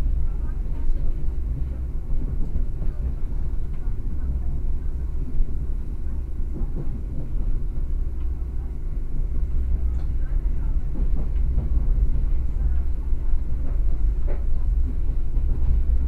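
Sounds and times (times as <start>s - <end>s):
train rumbling from inside carriage: 0.0s - 16.0s.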